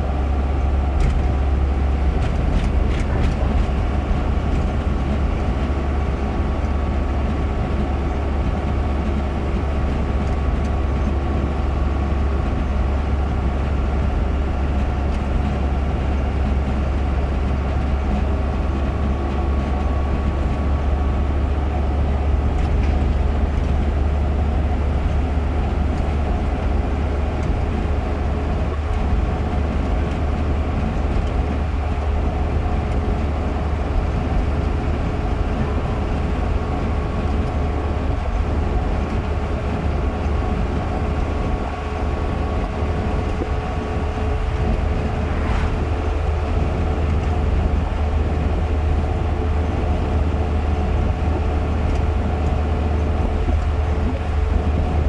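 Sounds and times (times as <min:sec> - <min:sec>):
car engine and tyre drone: 0:00.0 - 0:55.0.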